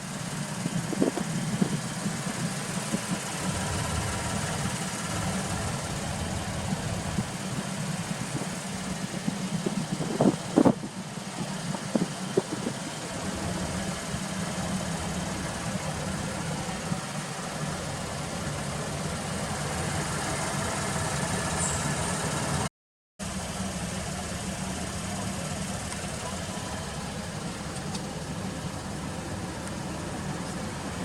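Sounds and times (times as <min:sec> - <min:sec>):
car engine idling: 0:00.0 - 0:22.7, 0:23.3 - 0:31.0.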